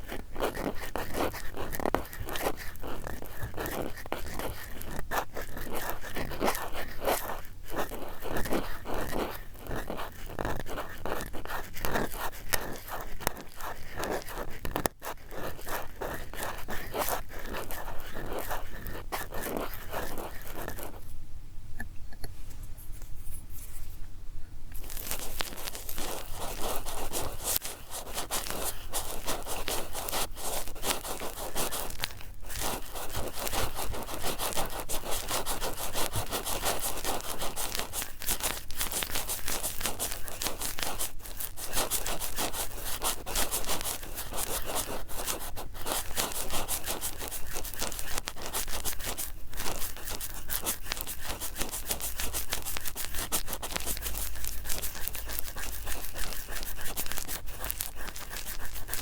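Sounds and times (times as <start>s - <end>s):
cotton swabs rubbing and scratching: 0.0s - 21.1s, 24.8s - 59.0s.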